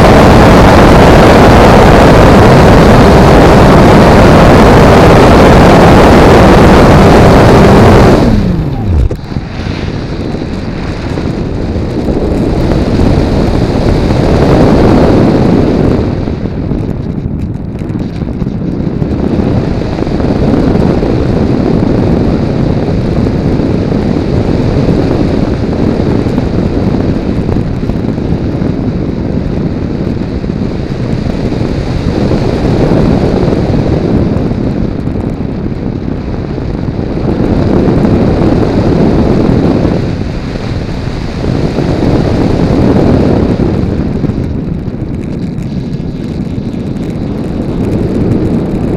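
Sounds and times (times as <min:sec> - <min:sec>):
wind roar over microphone: 0:00.0 - 0:48.9.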